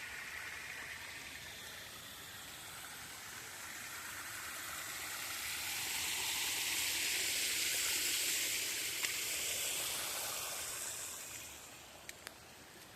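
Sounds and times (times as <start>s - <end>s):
spring water rushing over terraces: 0.0s - 12.9s.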